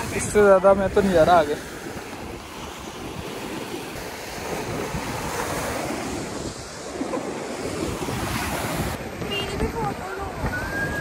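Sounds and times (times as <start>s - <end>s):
waves washing onto stony shore: 0.0s - 11.0s
wind rushing over microphone: 0.0s - 11.0s.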